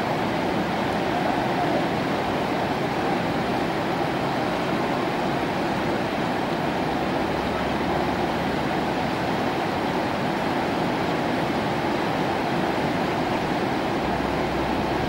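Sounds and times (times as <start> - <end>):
whitewater river rapids rushing: 0.0 - 15.0.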